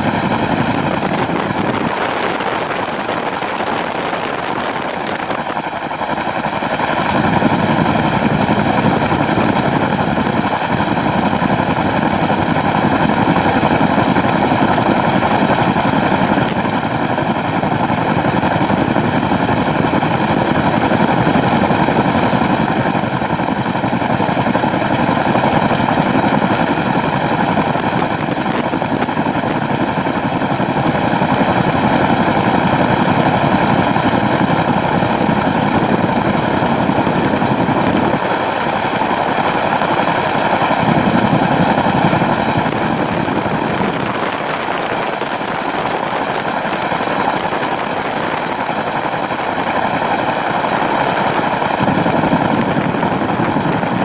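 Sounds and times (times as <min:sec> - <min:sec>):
helicopter engines and rotors: 0:00.0 - 0:54.0.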